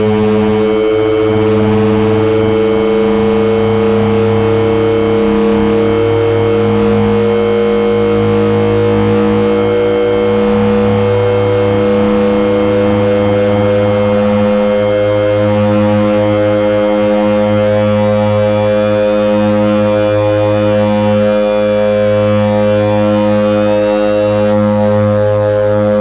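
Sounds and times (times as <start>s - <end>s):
electronic oscillator drone chord: 0.0s - 26.0s
low hum: 0.0s - 26.0s.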